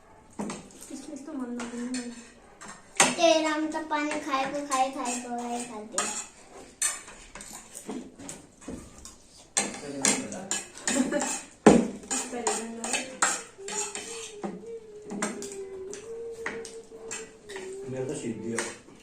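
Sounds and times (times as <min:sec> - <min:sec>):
spoons clinking against bowls: 0:01.6 - 0:03.2, 0:04.1 - 0:07.9, 0:09.0 - 0:19.0.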